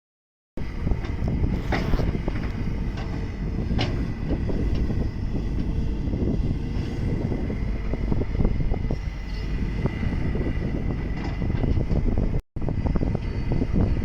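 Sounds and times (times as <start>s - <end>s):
excavator engine rumble: 0.6s - 14.0s
steady high whine: 0.6s - 14.0s.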